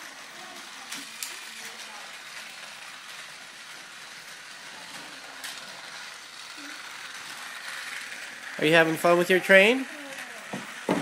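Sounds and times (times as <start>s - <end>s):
toy train whirring: 0.0s - 11.0s.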